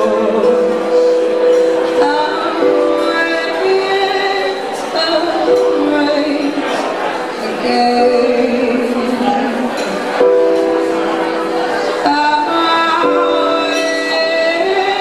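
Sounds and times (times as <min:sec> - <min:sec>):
woman singing: 0:00.0 - 0:10.4, 0:11.9 - 0:15.0
piano chords: 0:00.0 - 0:15.0.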